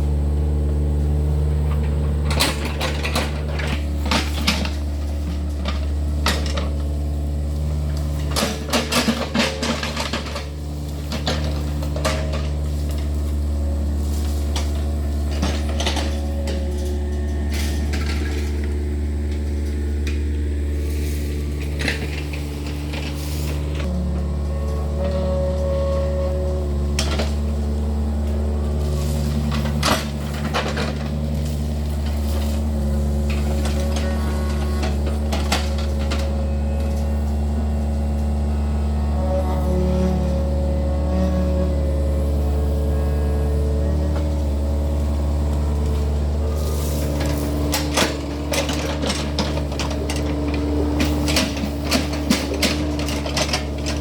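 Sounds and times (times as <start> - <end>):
diesel engine running: 0.0 - 54.0
metallic clanks of excavator bucket: 1.7 - 20.4, 21.6 - 37.6, 43.7 - 54.0.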